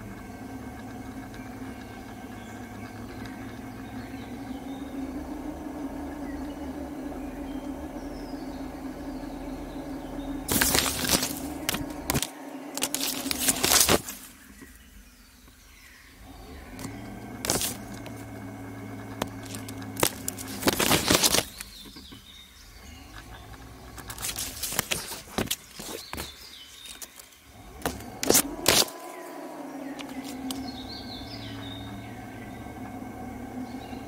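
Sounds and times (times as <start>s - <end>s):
birds chirping: 0.0s - 34.0s
cable camera low hum: 0.0s - 34.0s
leaves and branches rustling: 0.0s - 34.0s.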